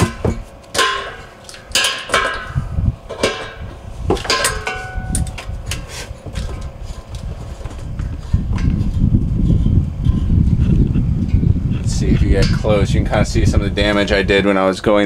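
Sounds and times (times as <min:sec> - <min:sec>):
low rumble: 0:02.3 - 0:14.5.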